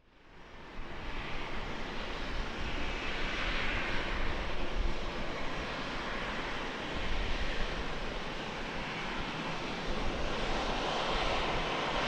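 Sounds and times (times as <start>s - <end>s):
jet engines passing by: 0.3s - 12.0s.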